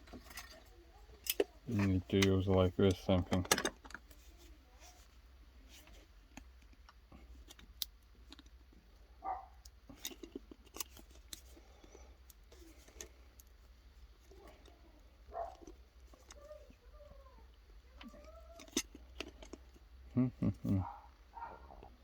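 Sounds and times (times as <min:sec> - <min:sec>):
faint clicks and small scrapes: 0:00.0 - 0:08.8, 0:09.5 - 0:19.9.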